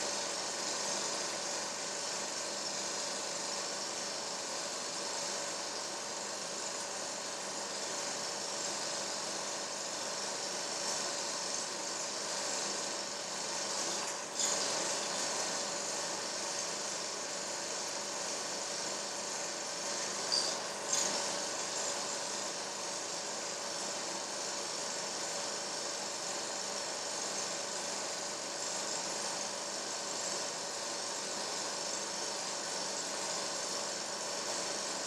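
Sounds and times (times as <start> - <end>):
film projector whirring: 0.0 - 35.0
hiss: 0.0 - 35.0.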